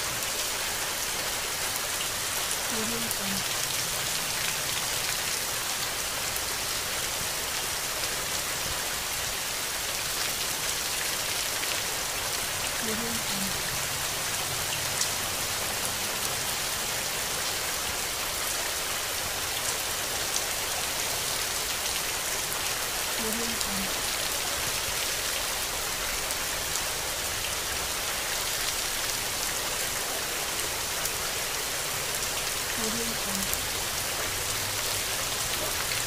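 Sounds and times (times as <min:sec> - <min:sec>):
heavy rain on leaves: 0:00.0 - 0:36.0.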